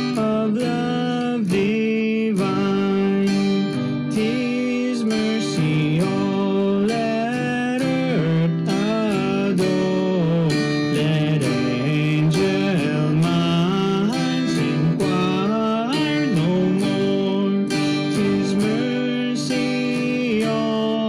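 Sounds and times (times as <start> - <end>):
acoustic guitar: 0.0 - 21.0
person singing a hymn: 0.0 - 21.0.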